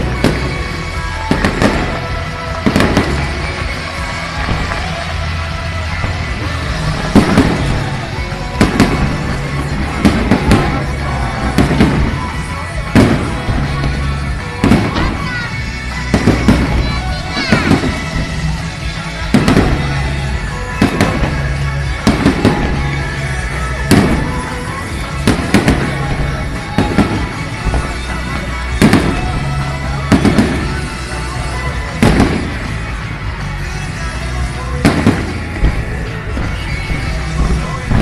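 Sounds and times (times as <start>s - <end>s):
fireworks bangs: 0.0s - 38.0s
pop music over loudspeakers: 0.0s - 38.0s.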